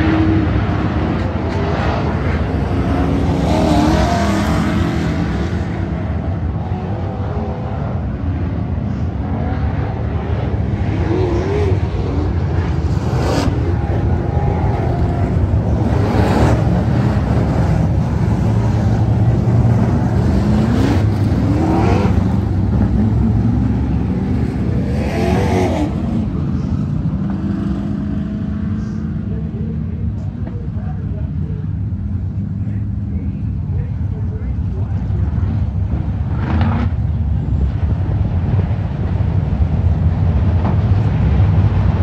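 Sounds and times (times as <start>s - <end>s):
race car engines droning: 0.0s - 42.0s
race cars passing by: 0.0s - 42.0s.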